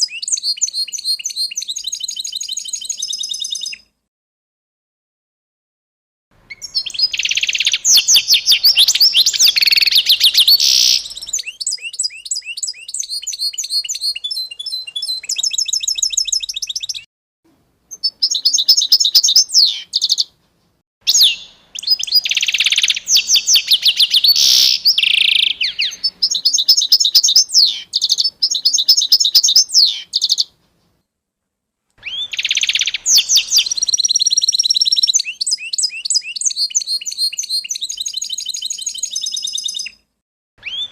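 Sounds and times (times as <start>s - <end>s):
songbird trilling: 0.0s - 3.8s, 6.5s - 17.0s, 17.9s - 20.3s, 21.1s - 30.5s, 32.0s - 40.0s.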